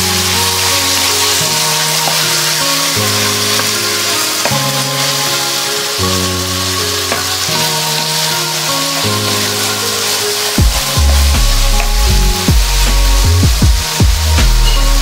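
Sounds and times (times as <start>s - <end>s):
background music of held chords: 0.0s - 15.0s
food sizzling in a pan: 0.0s - 15.0s
wooden spatula stirring: 0.0s - 15.0s.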